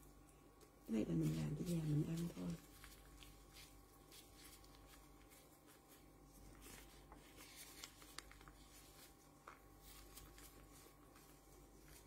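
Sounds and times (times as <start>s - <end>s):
faint steady hum: 0.0s - 12.0s
plastic gloves rustling: 0.0s - 12.0s.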